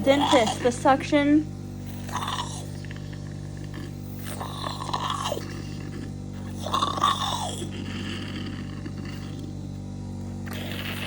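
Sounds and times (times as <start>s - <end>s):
suction machine humming: 0.0s - 11.0s.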